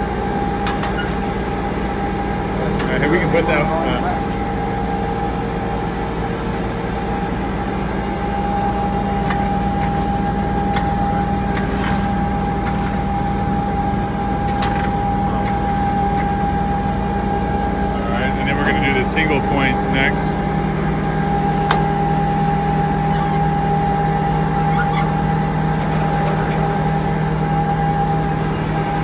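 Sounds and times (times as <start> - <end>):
fuel pump whine: 0.0 - 29.0
truck engine rumble: 0.0 - 29.0.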